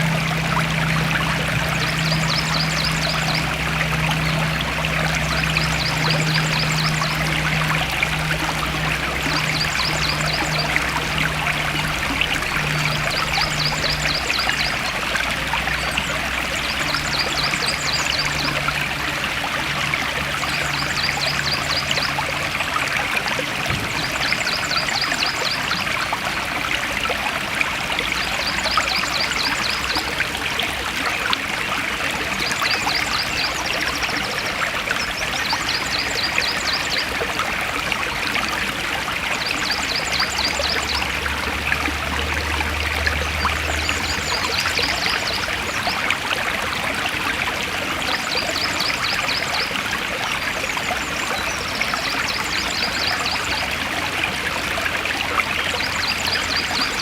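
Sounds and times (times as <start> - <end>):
forest stream flowing: 0.0 - 57.0.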